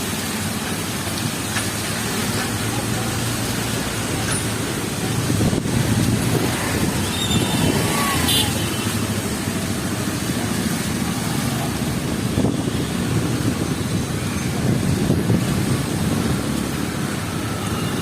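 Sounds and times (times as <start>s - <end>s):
heavy rain hiss: 0.0s - 18.0s
motor traffic passing: 0.2s - 18.0s.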